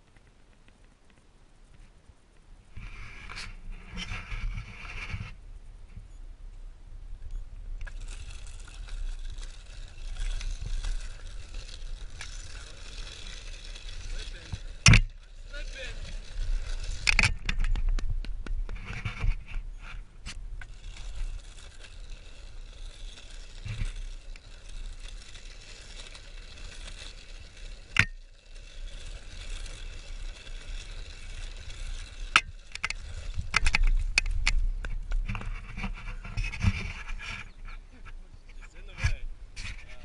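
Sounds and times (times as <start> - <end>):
board wheels rolling on dirt: 0.0 - 40.0.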